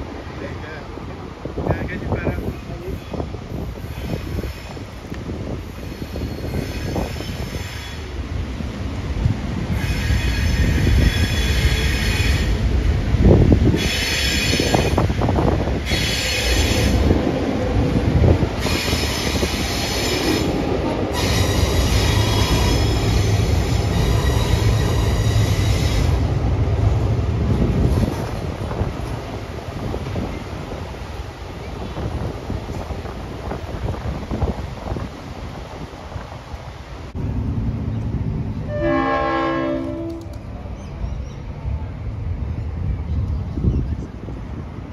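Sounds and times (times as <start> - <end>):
diesel locomotives rumbling: 0.0 - 44.9.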